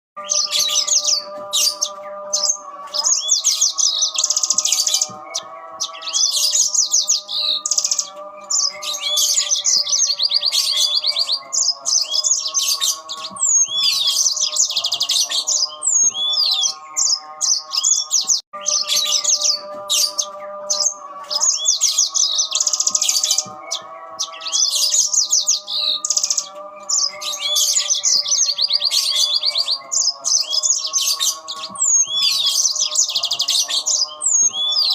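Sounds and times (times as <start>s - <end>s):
canaries singing trills and chirps: 0.2s - 34.9s.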